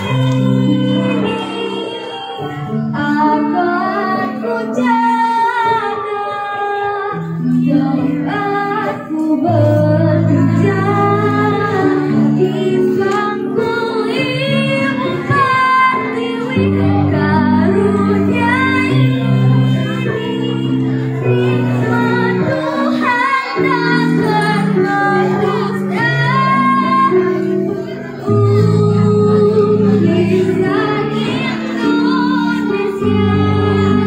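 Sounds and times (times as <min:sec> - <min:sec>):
girl singing into a microphone: 0:00.0 - 0:34.0.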